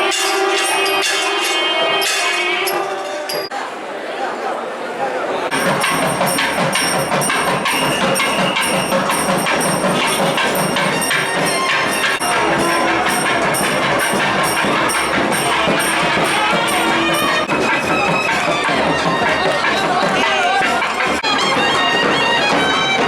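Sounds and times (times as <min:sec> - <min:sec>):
drumming: 0:00.0 - 0:03.5, 0:05.5 - 0:23.0
held piping notes: 0:00.0 - 0:03.5, 0:05.5 - 0:23.0
metallic ringing strokes: 0:00.0 - 0:03.5, 0:05.5 - 0:21.2.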